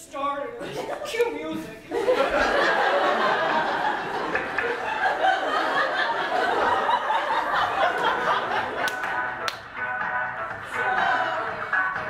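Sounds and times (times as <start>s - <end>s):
audience laughing and chattering: 0.4s - 12.0s.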